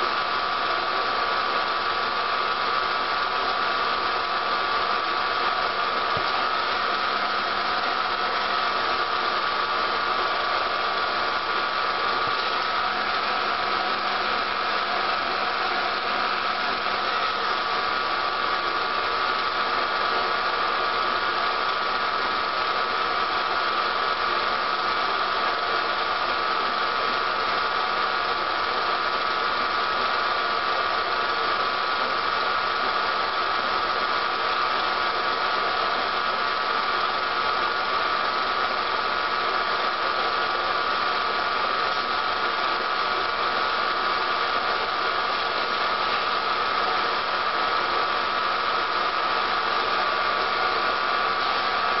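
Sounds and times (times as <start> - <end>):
steady hiss and hum: 0.0 - 52.0.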